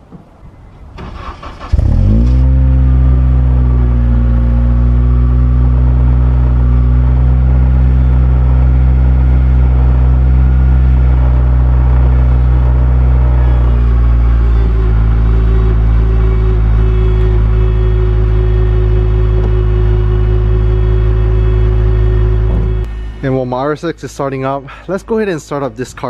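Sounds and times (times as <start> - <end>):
car starter cranking: 0.9 - 22.9
car engine revving and idling: 1.2 - 23.1.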